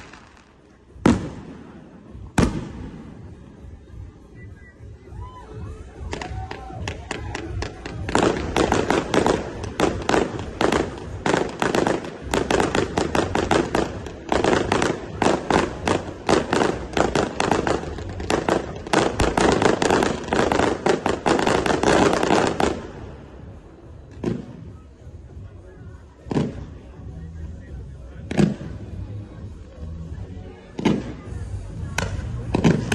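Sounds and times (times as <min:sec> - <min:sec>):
fireworks bangs: 0:00.0 - 0:27.2, 0:28.2 - 0:29.6, 0:30.7 - 0:32.9.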